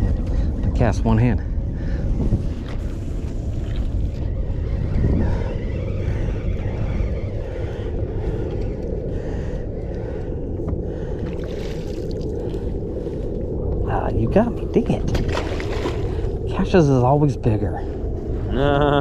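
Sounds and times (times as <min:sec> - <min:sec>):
wind buffeting microphone: 0:00.0 - 0:19.0
water around boat hull: 0:01.7 - 0:18.0.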